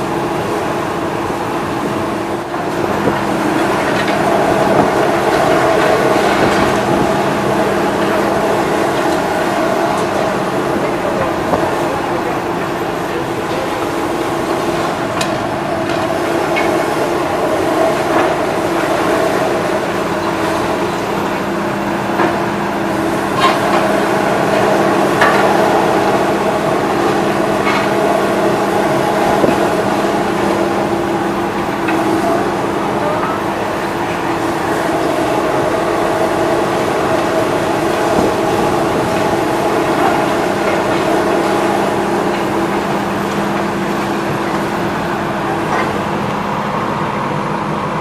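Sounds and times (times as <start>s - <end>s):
heavy engine running: 0.0s - 48.0s.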